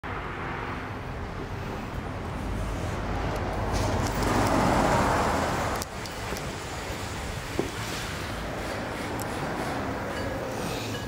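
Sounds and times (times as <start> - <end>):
vehicle passing: 0.0 - 10.9
road traffic noise: 0.0 - 11.0.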